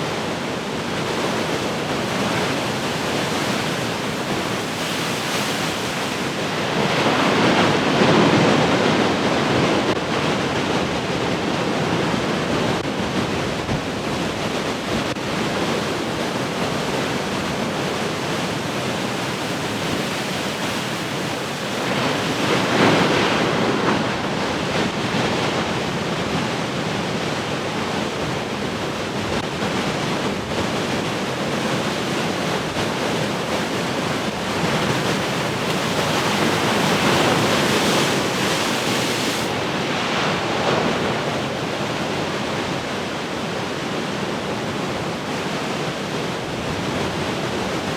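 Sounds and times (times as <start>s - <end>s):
big waves crashing: 0.0s - 47.9s
ocean waves breaking: 0.0s - 47.9s.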